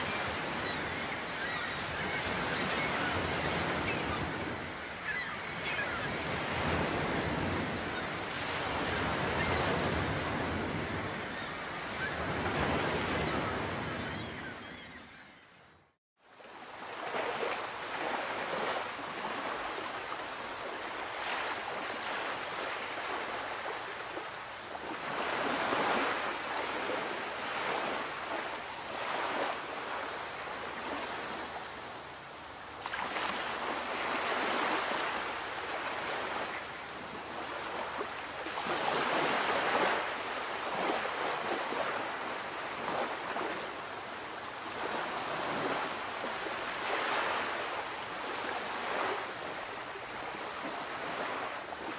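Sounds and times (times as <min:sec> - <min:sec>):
waves washing and breaking: 0:00.0 - 0:14.9, 0:16.2 - 0:51.9.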